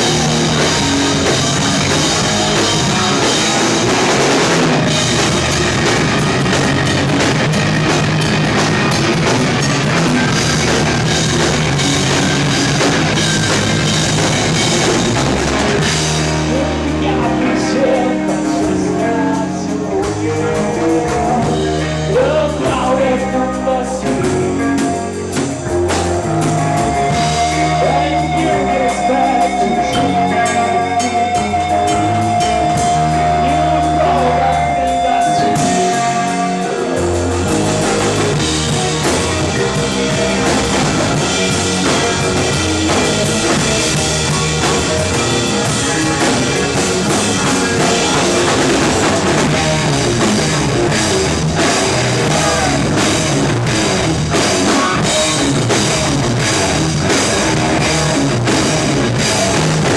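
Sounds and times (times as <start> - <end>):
rock band playing: 0.0 - 59.9.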